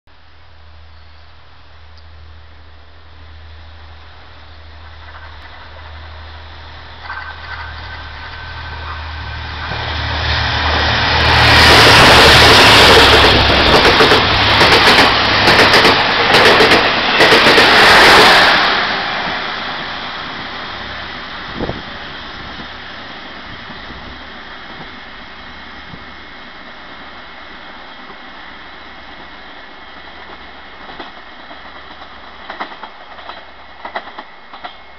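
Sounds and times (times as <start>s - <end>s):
train passing at speed: 0.6s - 34.9s.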